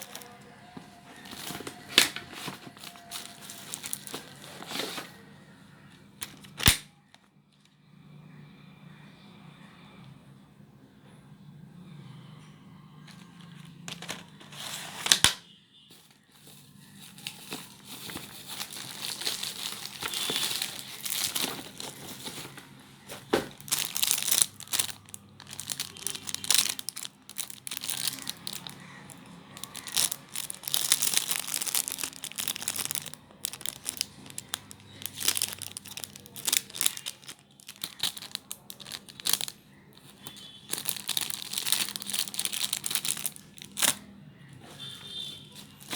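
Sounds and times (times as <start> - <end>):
sharp plastic crackle: 0.0 - 0.4, 1.2 - 5.2, 6.2 - 7.2, 13.1 - 44.1, 44.8 - 45.9
plastic packaging crinkling: 0.0 - 5.2, 6.2 - 6.8, 13.0 - 44.1, 44.8 - 45.9.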